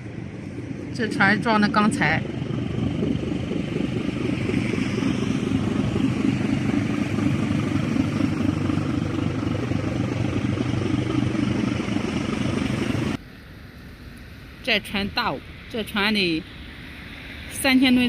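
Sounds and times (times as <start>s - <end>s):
ship diesel engine droning: 0.0s - 18.0s.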